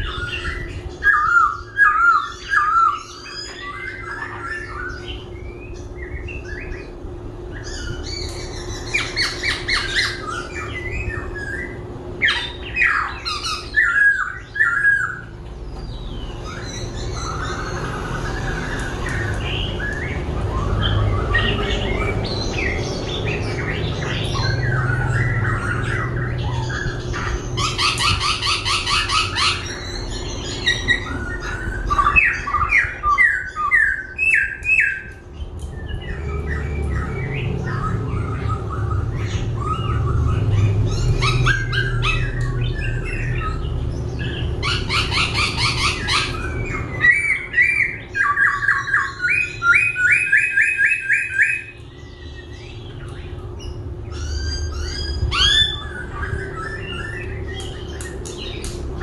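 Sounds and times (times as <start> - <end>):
bird singing trills and whistles: 0.0 - 59.0
steady low hum: 0.0 - 59.0.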